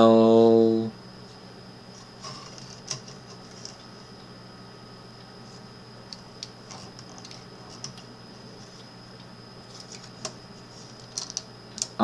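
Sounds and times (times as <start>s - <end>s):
electrical hum: 0.0s - 12.0s
thin high whine: 0.0s - 12.0s.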